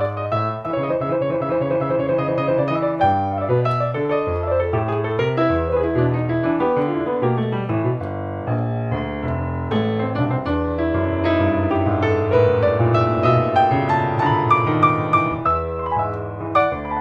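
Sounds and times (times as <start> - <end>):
solo grand piano: 0.0 - 17.0.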